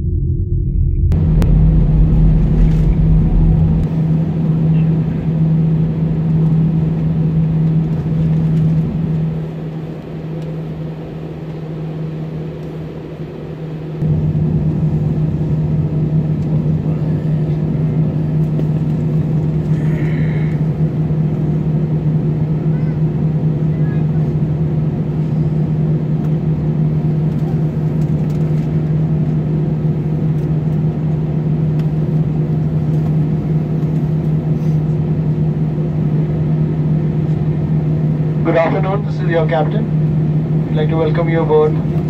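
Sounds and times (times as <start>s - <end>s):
jet airliner cabin drone: 0.0s - 42.0s.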